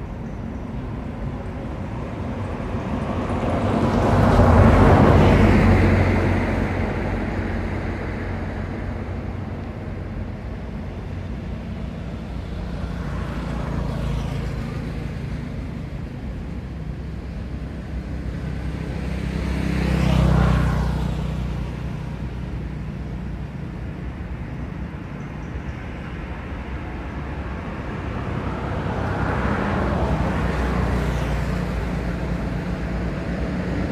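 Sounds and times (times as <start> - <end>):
vehicle passing: 1.1 - 25.1, 25.8 - 33.9.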